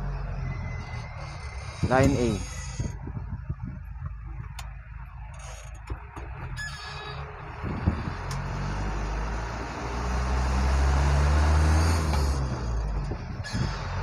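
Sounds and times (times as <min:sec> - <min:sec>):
vehicle engine driving: 0:00.0 - 0:14.0.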